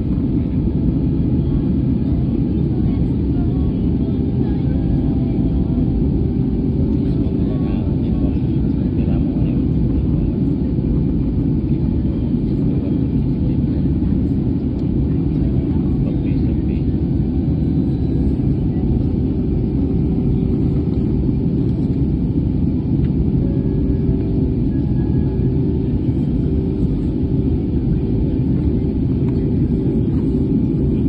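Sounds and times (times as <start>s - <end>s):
jet engine and airflow drone: 0.0s - 31.0s.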